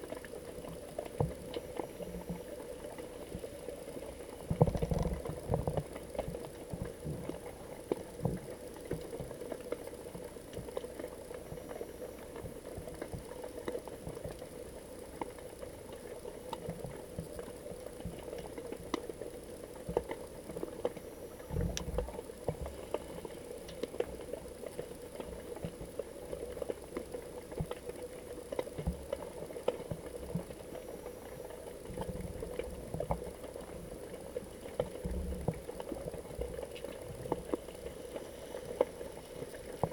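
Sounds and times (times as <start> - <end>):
muffled underwater hum: 0.0 - 39.9
water crackling and popping: 0.0 - 39.9.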